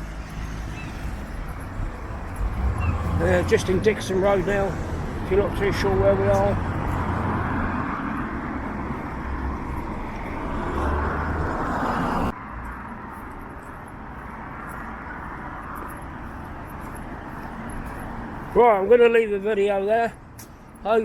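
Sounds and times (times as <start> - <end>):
passing car traffic: 0.0 - 21.0.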